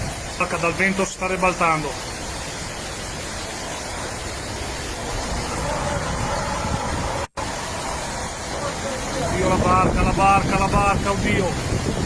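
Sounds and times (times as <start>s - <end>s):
strong wind: 0.0s - 0.8s, 2.0s - 12.0s
heavy rain and hail: 0.0s - 12.0s.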